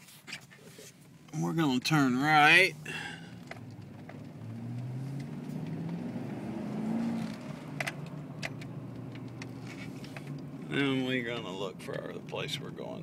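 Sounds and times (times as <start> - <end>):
road noise: 0.0 - 13.0
car engine hum: 0.4 - 13.0.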